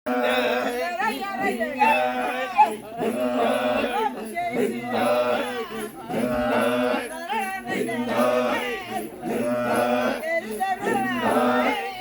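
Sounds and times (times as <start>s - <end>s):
voices singing: 0.1s - 12.0s.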